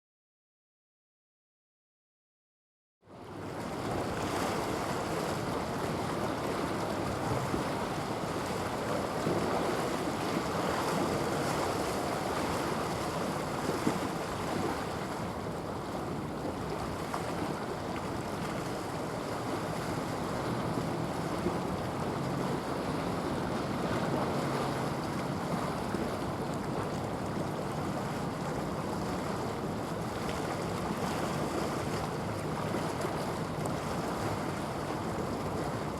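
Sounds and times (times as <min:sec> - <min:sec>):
sea water washing: 0:03.2 - 0:35.9
wind on microphone: 0:03.4 - 0:35.9.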